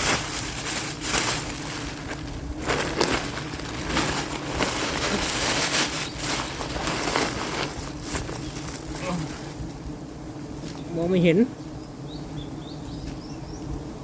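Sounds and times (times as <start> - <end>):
honeycomb rustling and crackling: 0.0 - 11.4
faint steady hum: 0.0 - 14.0.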